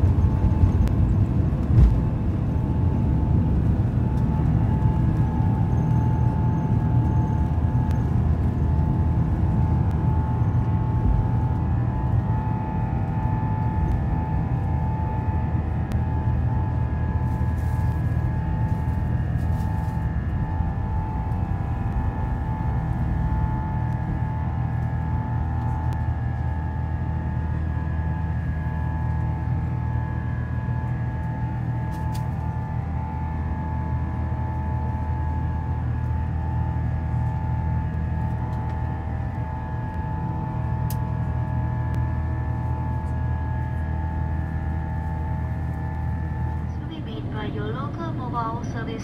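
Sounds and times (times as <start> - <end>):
jet engine rumble: 0.0 - 49.0
jet engine whine: 0.0 - 49.0.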